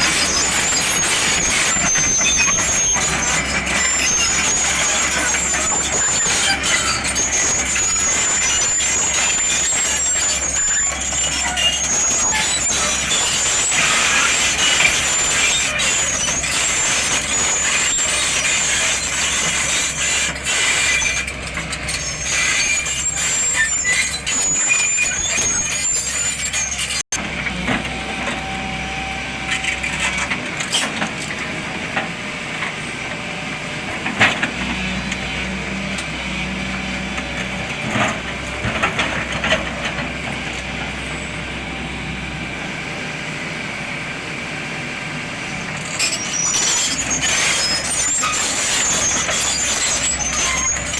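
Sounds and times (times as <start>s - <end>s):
excavator engine: 0.0s - 50.9s.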